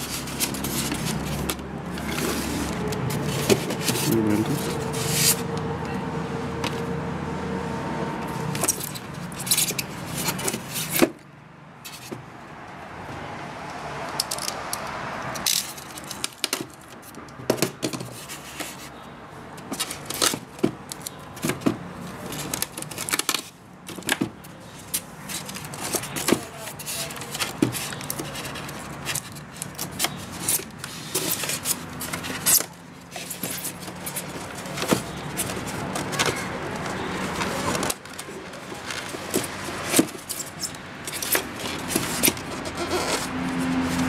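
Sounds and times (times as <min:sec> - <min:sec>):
plastic and styrofoam handling noise: 0:00.0 - 0:05.8, 0:08.2 - 0:11.2, 0:15.5 - 0:19.0, 0:19.6 - 0:44.0.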